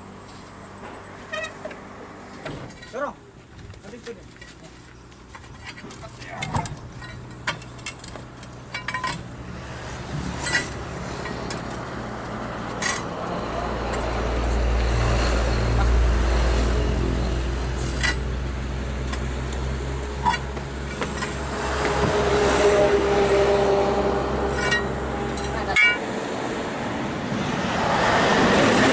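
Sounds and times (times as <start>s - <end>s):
diesel truck engine rumbling: 0.0s - 28.9s.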